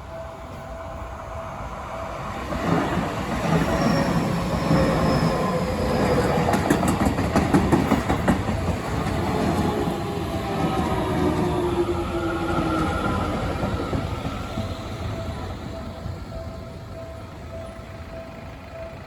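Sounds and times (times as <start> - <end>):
train rumble passing: 0.0 - 19.0.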